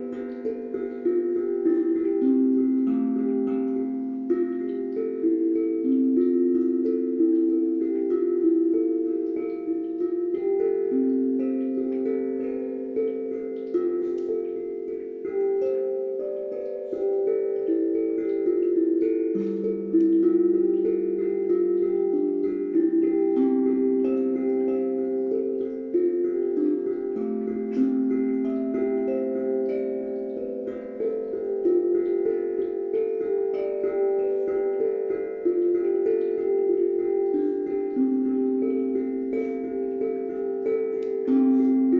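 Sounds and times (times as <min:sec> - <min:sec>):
calm instrumental ringing notes: 0:00.0 - 0:41.9.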